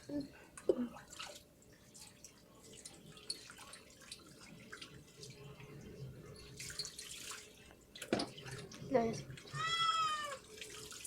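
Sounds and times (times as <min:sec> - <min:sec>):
water dripping and splashing: 0:00.5 - 0:11.0.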